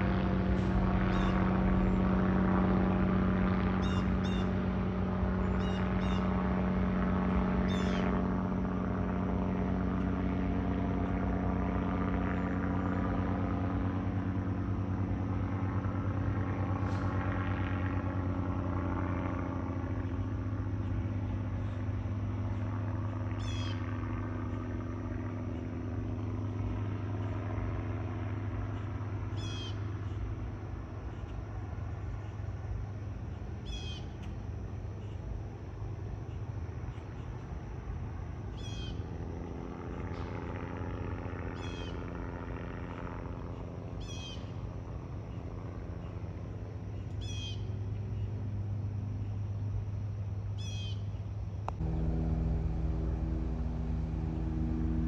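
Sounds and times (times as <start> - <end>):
aircraft engine drone: 0.0 - 55.0.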